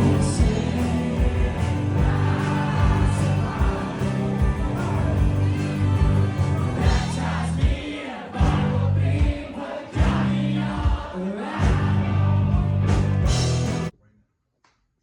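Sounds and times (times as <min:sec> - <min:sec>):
person singing: 0:00.0 - 0:12.9
rock band music: 0:00.0 - 0:13.9.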